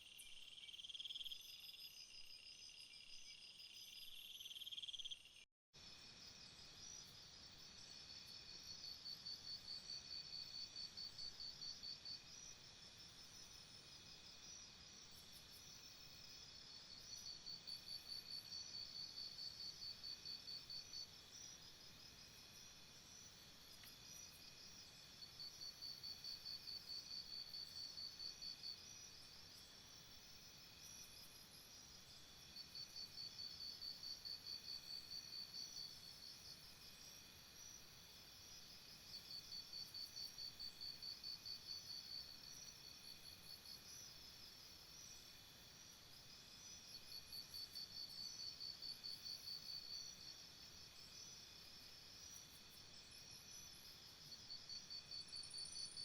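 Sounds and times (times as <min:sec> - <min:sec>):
high-pitched insect hum: 0:00.0 - 0:56.0
insect chirping in pulsed trains: 0:00.1 - 0:56.0.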